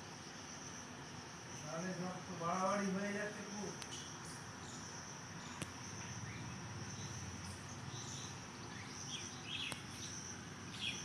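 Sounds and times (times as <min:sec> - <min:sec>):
high-pitched insect trill: 0:00.0 - 0:11.0
faint chirps: 0:01.5 - 0:11.0.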